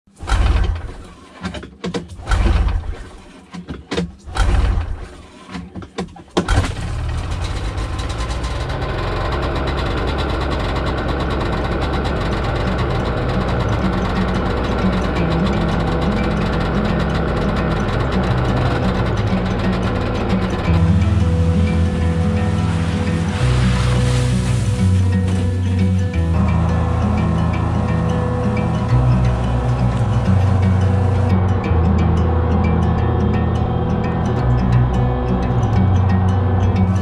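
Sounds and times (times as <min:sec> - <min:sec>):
snowmobile engine cranking: 0:00.1 - 0:37.0
snowmobile engine idling: 0:06.5 - 0:37.0.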